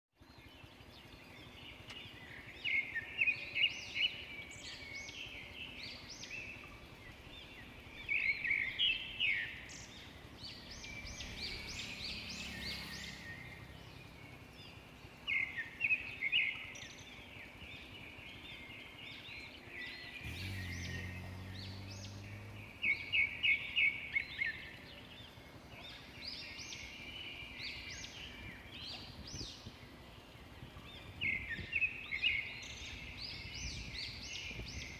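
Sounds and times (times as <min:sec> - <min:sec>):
outdoor background: 0:00.1 - 0:34.9
faint low hum: 0:00.2 - 0:34.9
birds singing high notes: 0:01.4 - 0:29.8.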